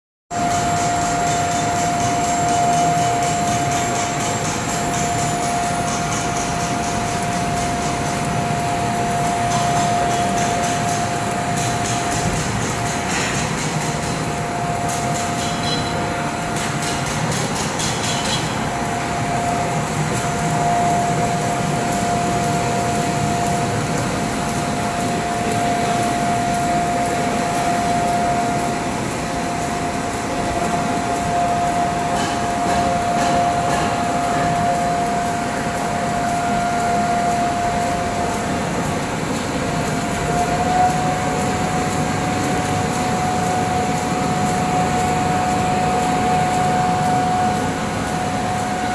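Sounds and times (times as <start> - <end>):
machine humming and whining: 0.3 - 48.9.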